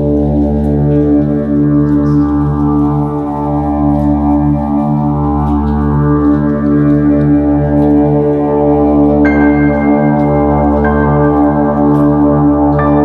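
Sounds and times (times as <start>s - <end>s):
ambient drone chords: 0.0s - 13.0s.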